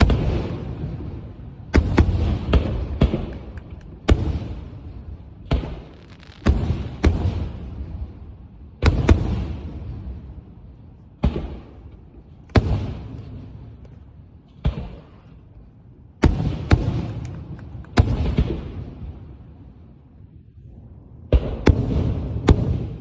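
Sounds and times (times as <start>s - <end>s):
fireworks booming: 0.0s - 19.8s, 21.2s - 23.0s.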